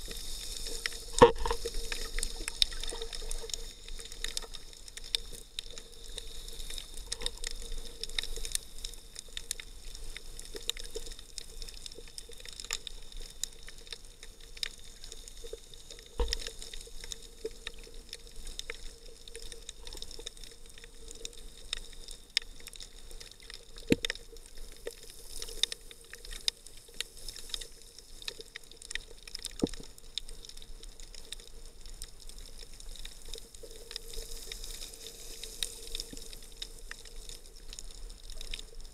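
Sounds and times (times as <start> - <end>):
muffled underwater hiss: 0.0 - 38.9
sharp clicks and crackles: 0.0 - 38.9.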